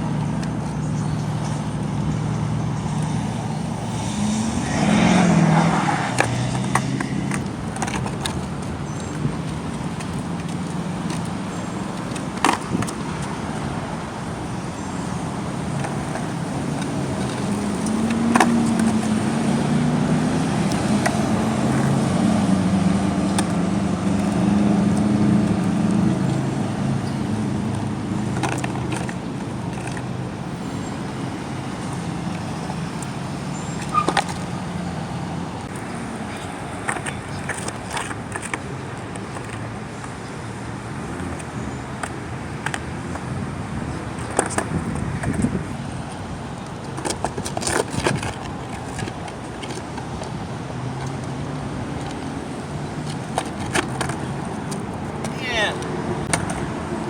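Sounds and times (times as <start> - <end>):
car passing: 0.0 - 57.0
skateboard clacking on ground: 0.0 - 57.0
skateboard rolling on pavement: 0.0 - 57.0.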